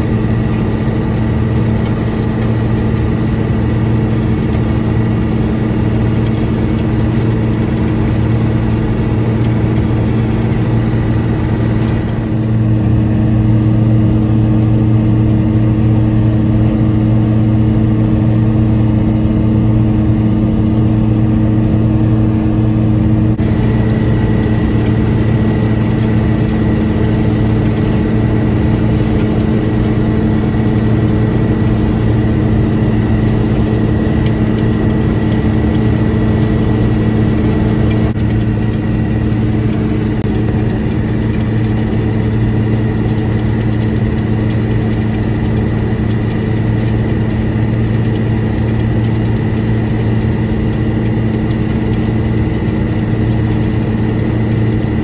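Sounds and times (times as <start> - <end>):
combine harvester drone: 0.0 - 55.0
steady hum: 0.0 - 55.0.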